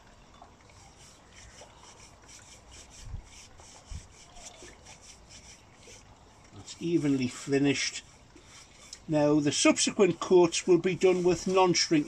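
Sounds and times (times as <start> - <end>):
scratchy brush strokes: 0.7 - 12.0.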